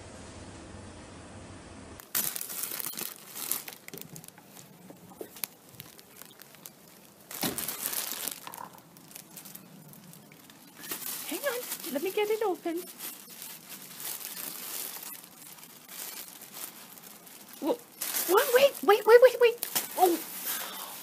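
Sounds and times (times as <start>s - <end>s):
packaging crinkling and tearing: 2.0s - 21.0s.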